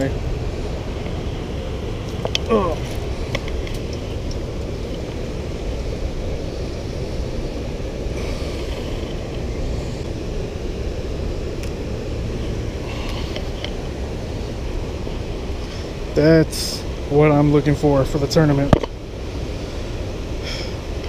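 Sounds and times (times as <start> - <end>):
low rushing background noise: 0.0 - 21.0.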